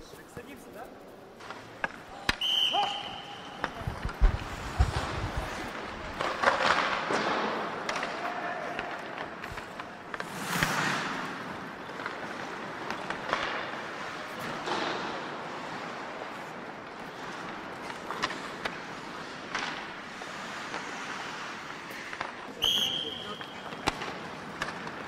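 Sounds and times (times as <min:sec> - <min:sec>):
hockey sticks and pucks clacking: 0:00.0 - 0:25.0
skate blades scraping ice: 0:00.2 - 0:25.0.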